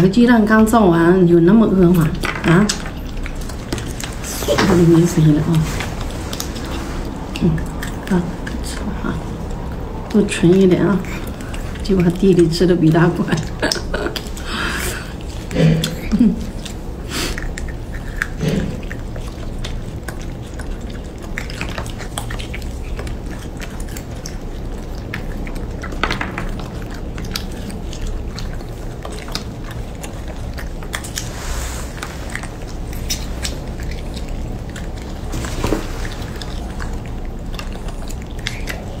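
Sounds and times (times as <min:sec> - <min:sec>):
low background hum: 0:00.0 - 0:39.0
monkeys chewing and lip-smacking: 0:00.0 - 0:39.0.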